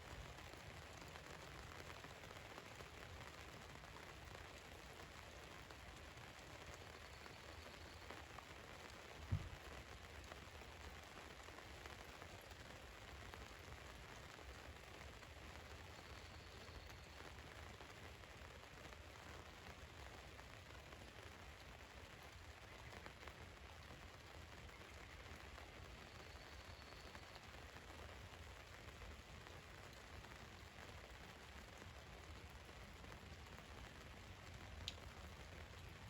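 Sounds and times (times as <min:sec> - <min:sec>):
rain on a vehicle roof: 0:00.0 - 0:36.0.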